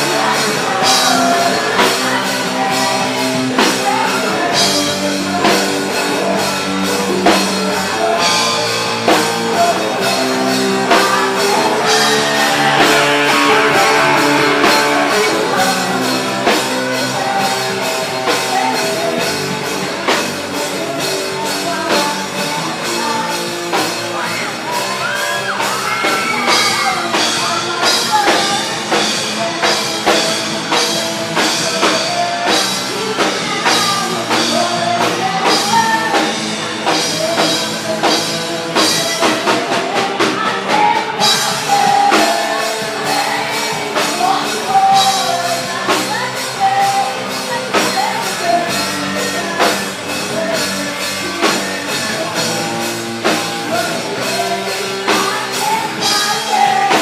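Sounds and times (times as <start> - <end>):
lead singer's voice: 0.0 - 57.0
rock band playing: 0.0 - 57.0.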